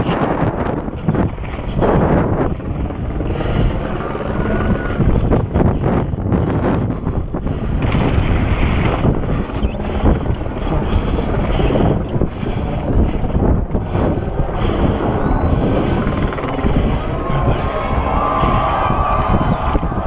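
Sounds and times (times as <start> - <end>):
bike tyres over loose dirt: 0.0 - 20.0
wind buffeting microphone: 0.0 - 20.0.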